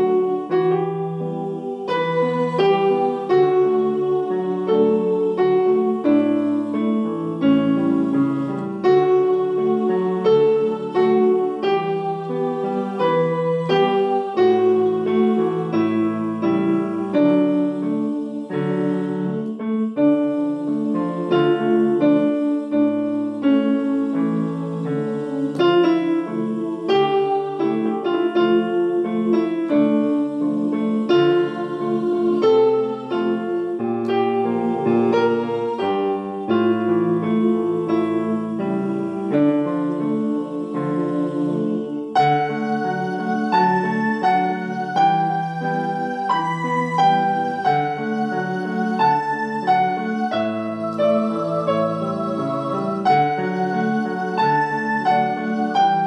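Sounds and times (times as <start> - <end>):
slow piano chords: 0.0 - 56.0.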